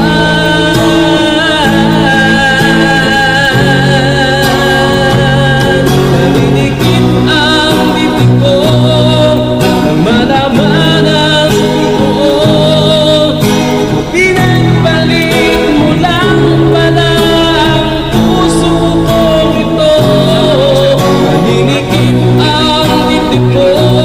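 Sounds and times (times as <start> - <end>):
ballad with wavering melody: 0.0 - 24.0.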